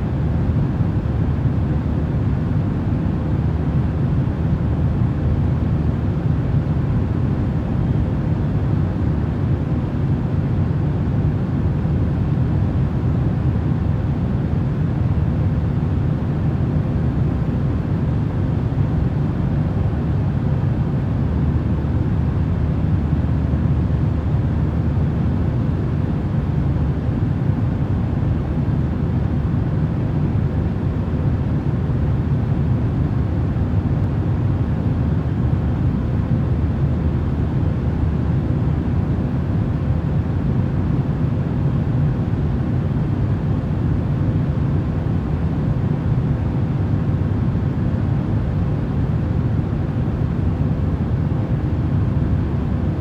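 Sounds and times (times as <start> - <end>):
airplane cabin rumble: 0.0 - 53.0
faint steady hum: 0.0 - 53.0.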